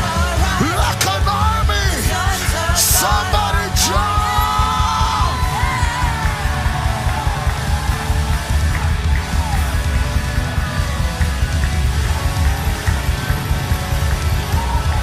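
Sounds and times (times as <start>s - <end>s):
live band playing loud music: 0.0s - 15.0s
pounding drums: 0.0s - 15.0s.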